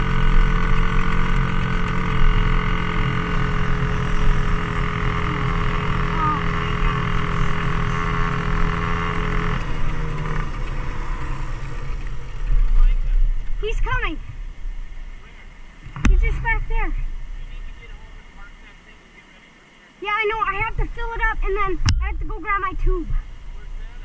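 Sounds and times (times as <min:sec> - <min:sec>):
dirt bike engine running: 0:00.0 - 0:19.0, 0:20.0 - 0:24.0.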